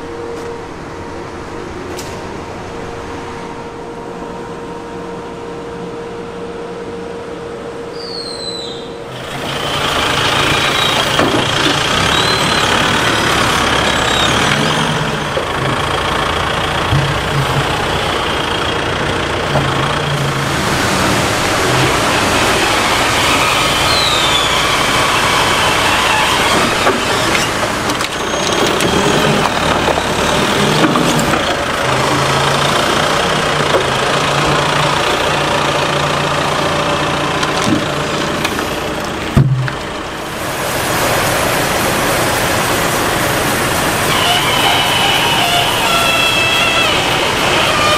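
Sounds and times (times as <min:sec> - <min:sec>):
forklift engine running: 0:00.0 - 0:47.9.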